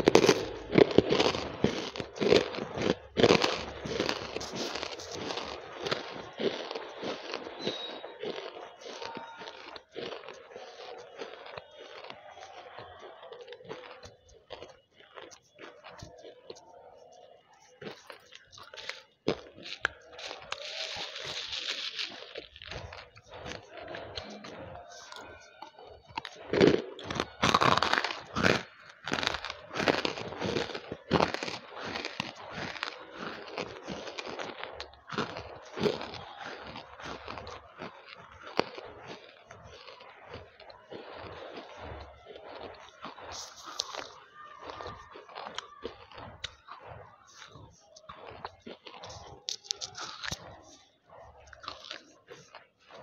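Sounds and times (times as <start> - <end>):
dry crunches of chewing: 0.0 - 53.0.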